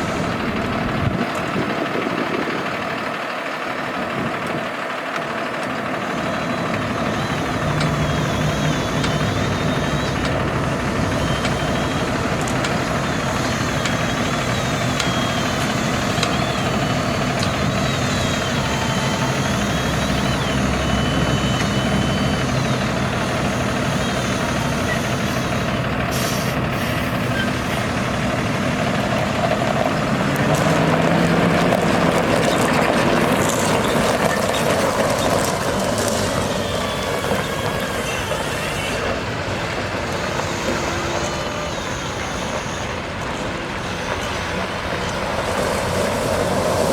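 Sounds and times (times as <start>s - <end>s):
diesel truck engine revving: 0.0s - 46.9s.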